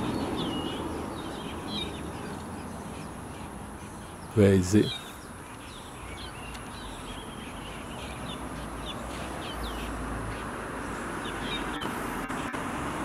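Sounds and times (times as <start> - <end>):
bird chirping: 0.0 - 12.5
steady background noise: 0.0 - 13.0.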